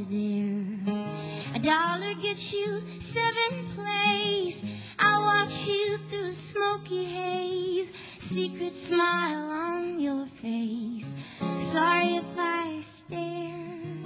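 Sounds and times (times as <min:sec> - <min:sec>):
classical guitar: 0:00.0 - 0:14.0
woman singing slow song: 0:00.0 - 0:14.0.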